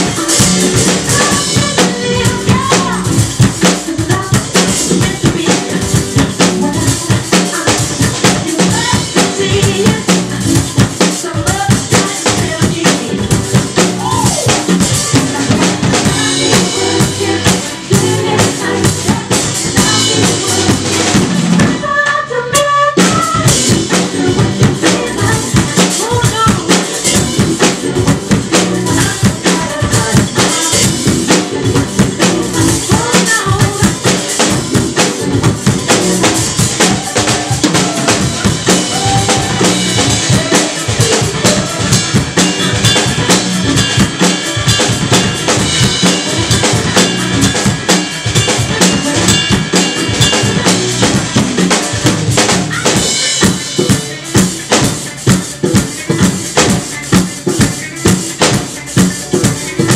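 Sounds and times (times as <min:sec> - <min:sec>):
funk drum solo: 0:00.0 - 0:59.9.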